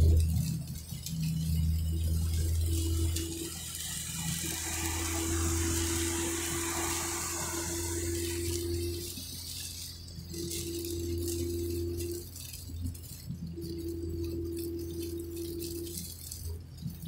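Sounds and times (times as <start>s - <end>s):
low engine and road hum: 0.0s - 17.0s
rain and tyre spray hiss: 0.0s - 17.0s.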